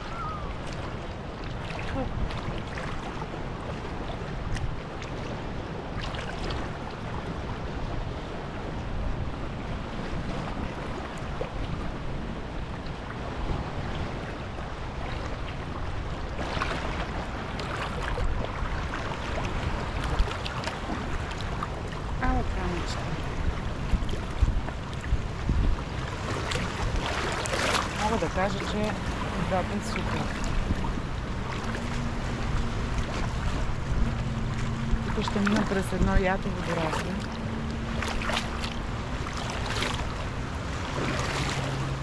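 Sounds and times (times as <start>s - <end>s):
water sloshing around wader: 0.0s - 42.0s
water splashes: 0.0s - 42.0s
wind rumble on microphone: 0.0s - 42.0s.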